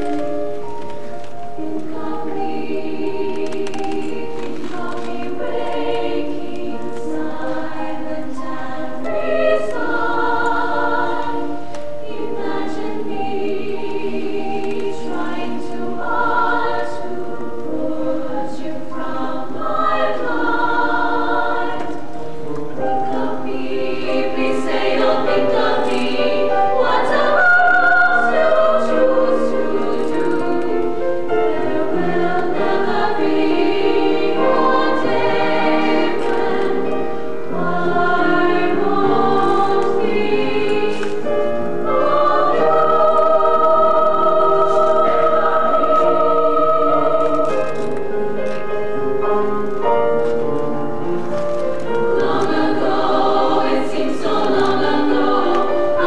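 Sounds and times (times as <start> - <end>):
choir singing long notes: 0.0 - 50.4, 51.0 - 56.0.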